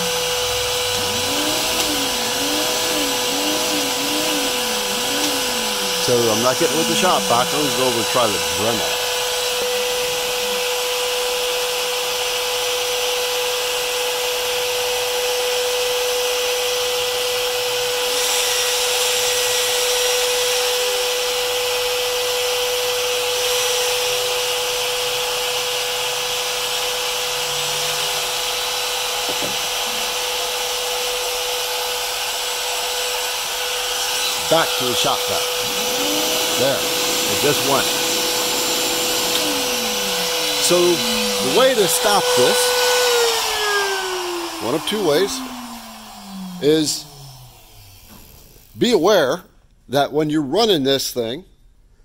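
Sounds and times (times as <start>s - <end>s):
router motor whining: 0.0s - 48.8s.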